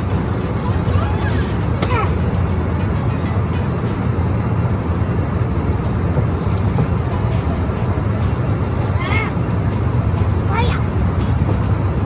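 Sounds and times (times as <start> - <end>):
vehicle interior rumble: 0.0 - 12.0.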